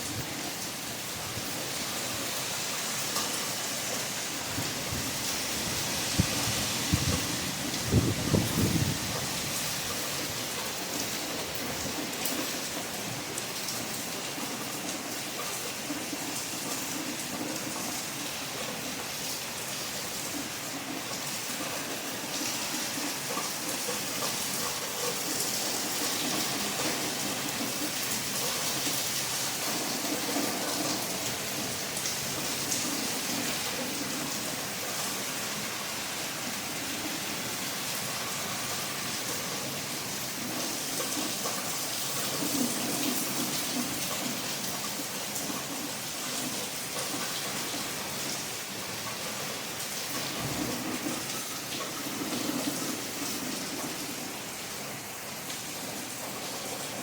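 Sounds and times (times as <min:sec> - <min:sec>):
rain pattering on surfaces: 0:00.0 - 0:57.0.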